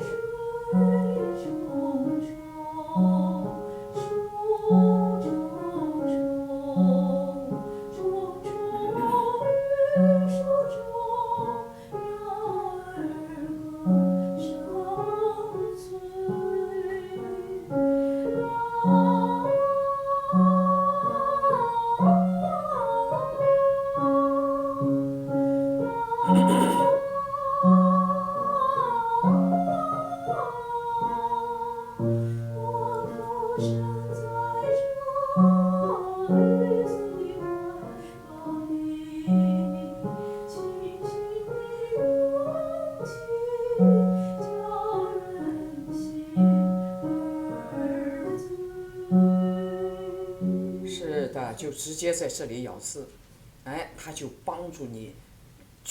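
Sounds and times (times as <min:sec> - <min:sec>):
keyboard accompaniment: 0:00.0 - 0:51.5
woman singing slow song: 0:00.0 - 0:51.5.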